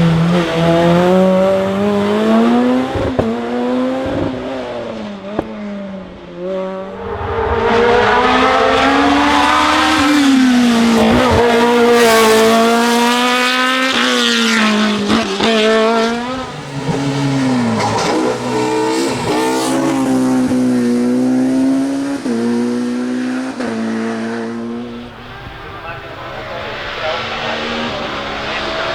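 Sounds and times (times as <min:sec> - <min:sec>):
race car engine at full throttle: 0:00.0 - 0:28.9.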